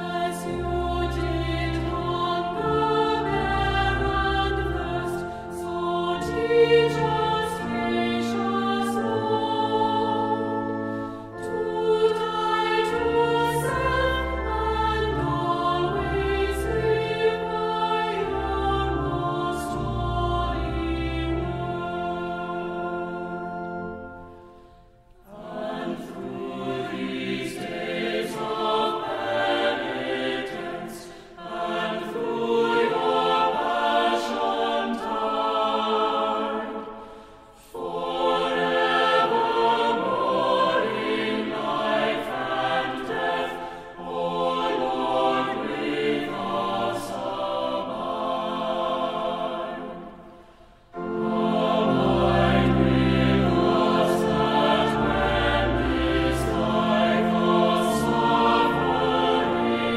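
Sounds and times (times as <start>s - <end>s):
choir singing slow phrases: 0.0s - 59.9s.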